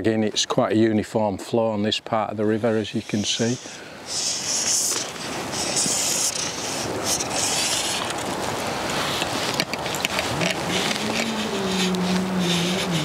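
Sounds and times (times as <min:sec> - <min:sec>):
wind: 0:00.0 - 0:13.0
river water: 0:00.9 - 0:13.0.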